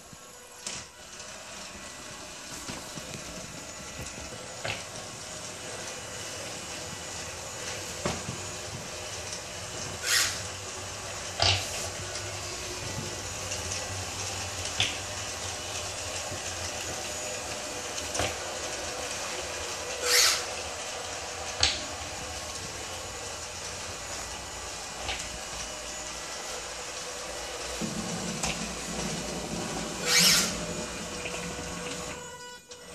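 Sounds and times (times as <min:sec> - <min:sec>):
mop motor hum: 0:00.0 - 0:32.9.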